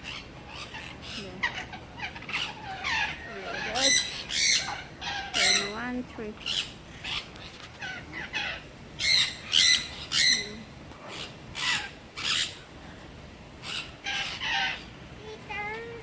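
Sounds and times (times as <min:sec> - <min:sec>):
parrots squawking: 0:00.0 - 0:12.8, 0:13.5 - 0:15.9.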